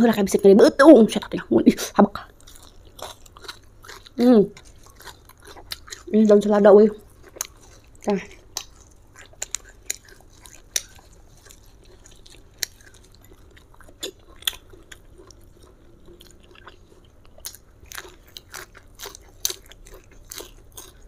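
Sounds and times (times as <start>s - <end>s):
lettuce crunching when chewed: 2.3s - 21.0s.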